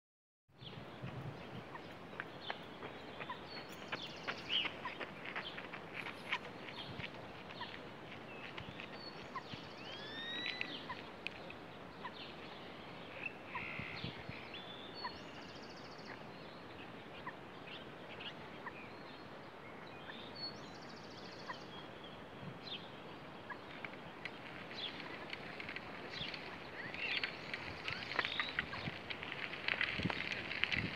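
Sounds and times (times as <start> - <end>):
birds chirping and calling: 1.4 - 7.8, 8.4 - 22.0, 22.7 - 29.0.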